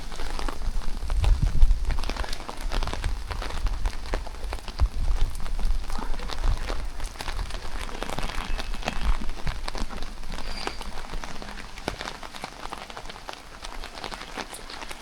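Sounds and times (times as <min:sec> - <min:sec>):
rain drops hitting close: 0:00.0 - 0:15.0.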